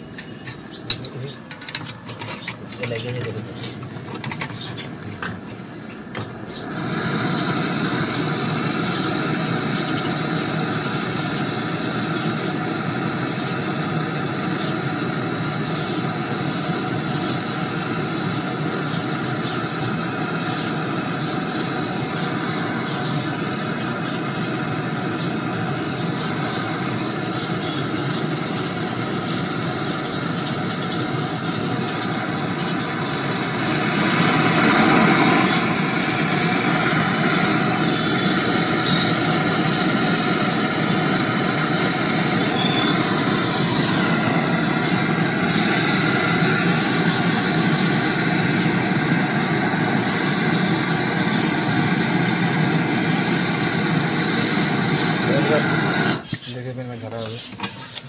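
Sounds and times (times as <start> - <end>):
torch flame hissing: 0.0 - 58.0.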